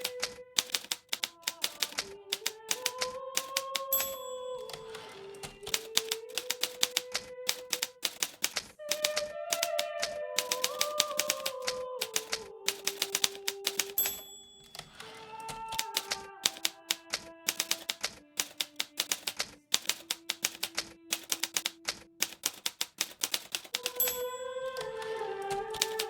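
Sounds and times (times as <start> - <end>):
typewriter typing: 0.0 - 26.0.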